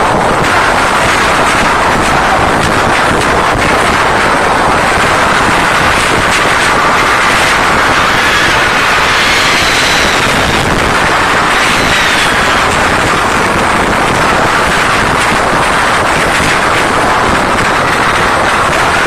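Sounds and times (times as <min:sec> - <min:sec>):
crowd screaming: 0:00.0 - 0:19.0.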